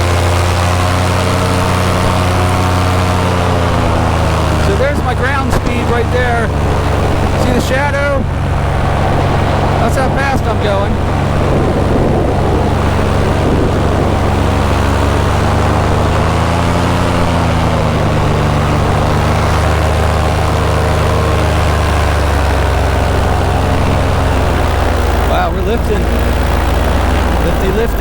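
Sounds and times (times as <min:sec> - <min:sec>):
paramotor engine and propeller: 0:00.0 - 0:28.0.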